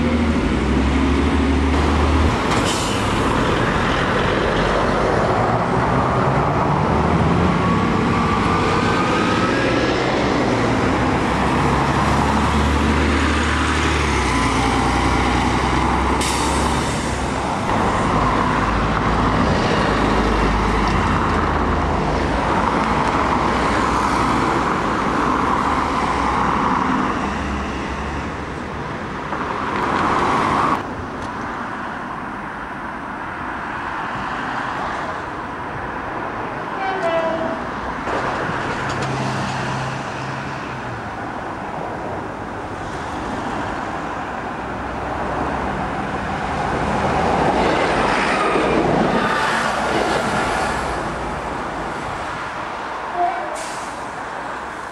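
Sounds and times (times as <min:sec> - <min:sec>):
bus diesel engines: 0:00.0 - 0:54.9.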